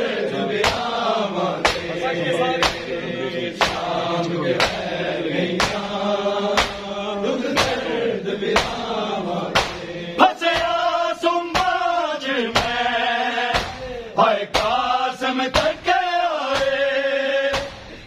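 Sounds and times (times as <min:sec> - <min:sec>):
male voices chanting a lament: 0:00.0 - 0:18.0
men beating their chests: 0:00.0 - 0:18.0.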